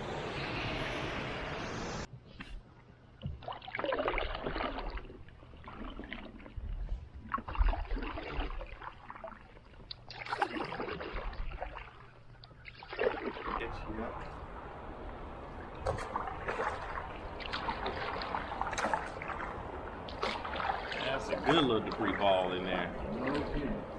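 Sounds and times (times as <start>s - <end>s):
paddle splashing in water: 3.3s - 23.9s.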